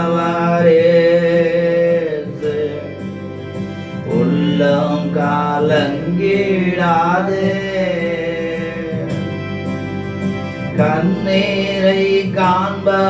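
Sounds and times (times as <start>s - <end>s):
person singing worship song: 0.0s - 9.5s, 10.4s - 13.0s
keyboard accompaniment: 0.0s - 13.0s.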